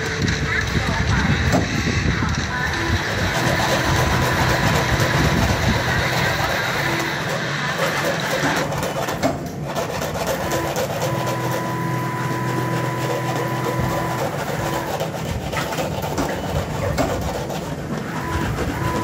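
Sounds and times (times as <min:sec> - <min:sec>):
motor drone: 0:00.0 - 0:09.3, 0:10.2 - 0:19.0
mechanical running clatter: 0:00.0 - 0:19.0.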